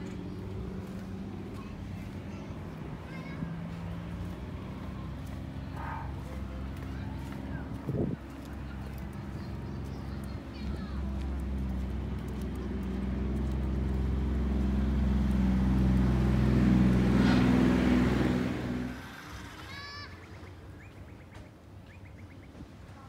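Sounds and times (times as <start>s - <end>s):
vehicle engine drone: 0.0s - 22.4s.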